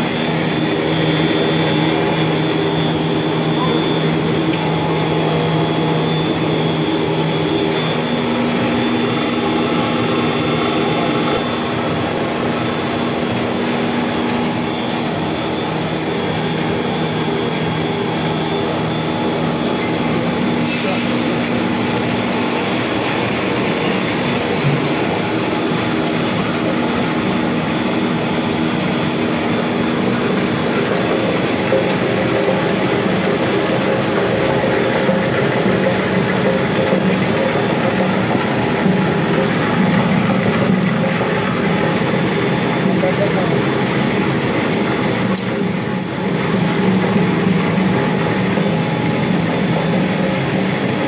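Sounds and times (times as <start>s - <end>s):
high machine whine: 0.0s - 51.0s
machinery droning: 0.0s - 51.0s.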